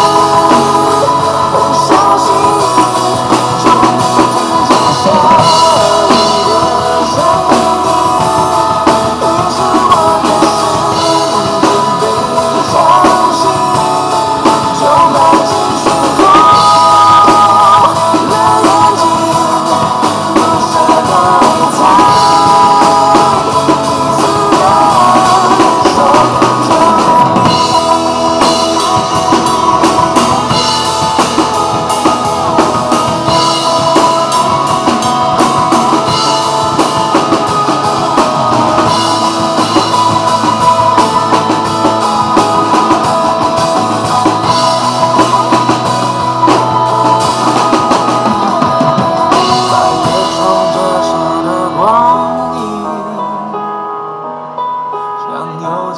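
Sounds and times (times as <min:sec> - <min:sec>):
drums and cymbals: 0:00.0 - 0:53.0
pop song backing track: 0:00.0 - 0:55.9.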